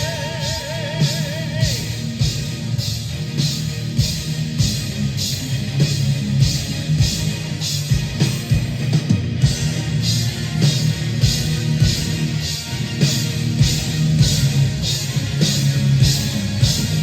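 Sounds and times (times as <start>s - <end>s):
distorted guitars: 0.0s - 17.0s
drums and cymbal hits: 0.0s - 17.0s.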